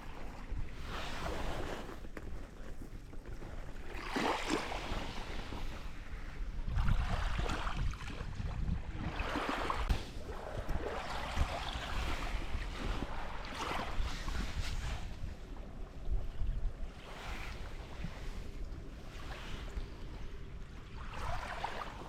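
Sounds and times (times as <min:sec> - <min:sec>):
waves washing onto beach: 0:00.0 - 0:02.0, 0:03.9 - 0:22.0
wind buffeting microphone: 0:00.0 - 0:22.0.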